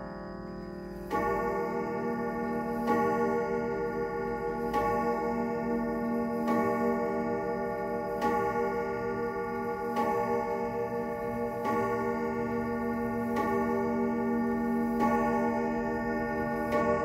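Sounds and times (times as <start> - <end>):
clock striking on chime rods: 0.0 - 17.0.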